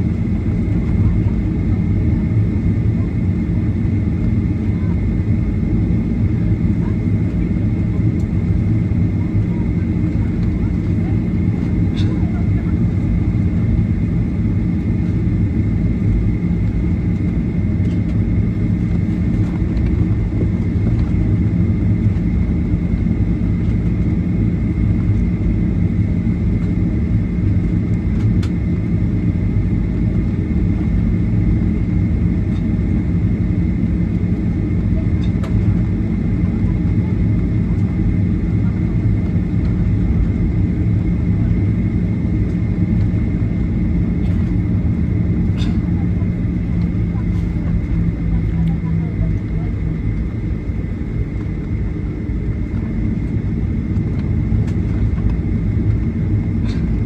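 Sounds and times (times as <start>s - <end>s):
airliner engines rumbling: 0.0s - 57.0s.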